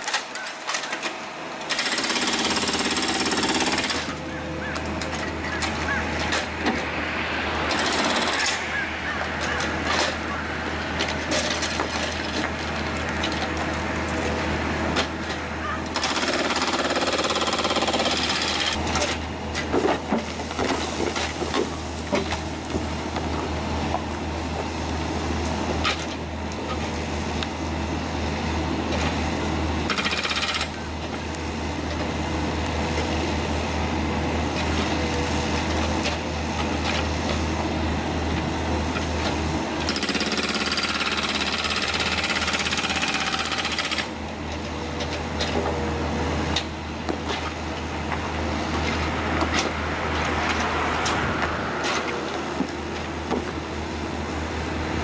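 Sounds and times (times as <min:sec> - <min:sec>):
low diesel drone: 0:00.5 - 0:55.0.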